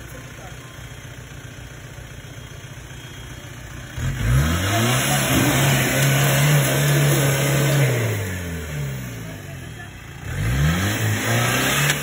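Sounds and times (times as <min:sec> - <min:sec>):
vehicle engine idling and revving: 0:00.0 - 0:12.0.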